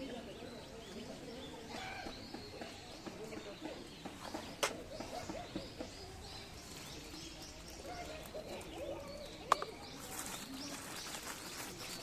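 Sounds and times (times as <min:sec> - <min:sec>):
birds calling and chirping: 0:00.0 - 0:12.0
cooing bird calls: 0:00.0 - 0:12.0.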